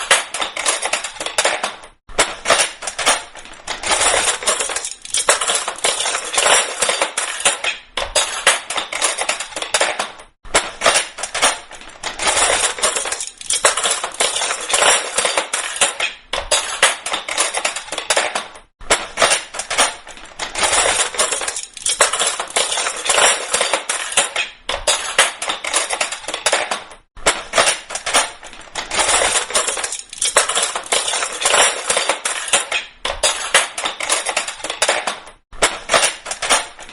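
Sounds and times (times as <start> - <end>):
metal cutlery clattering: 0.0 - 36.9.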